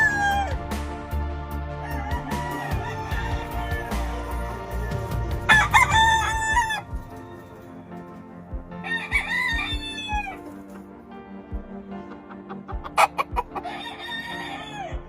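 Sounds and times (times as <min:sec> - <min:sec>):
roosters crowing: 0:00.0 - 0:10.7, 0:12.9 - 0:15.0.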